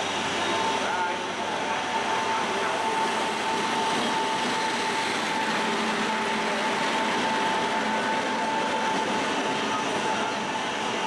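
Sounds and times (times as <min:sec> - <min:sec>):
electric train rushing: 0:00.0 - 0:11.0.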